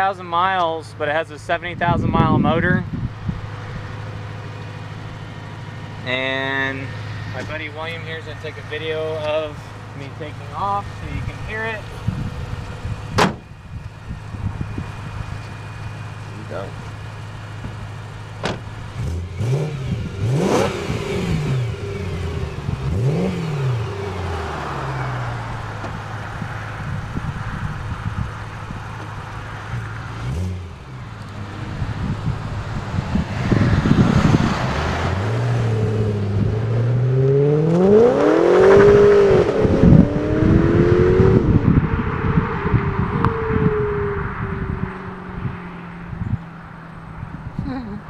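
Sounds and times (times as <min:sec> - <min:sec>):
car engine revving: 0:00.0 - 0:47.5.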